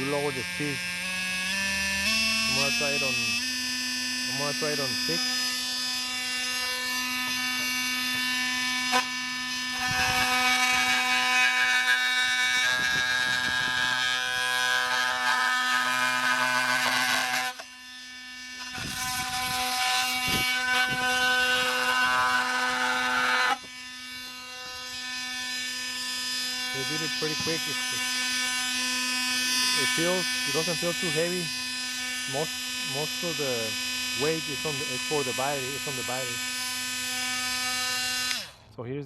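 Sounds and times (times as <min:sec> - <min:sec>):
blade cutting into wood: 0:00.0 - 0:38.6
multi-tool buzzing hum: 0:00.0 - 0:38.7.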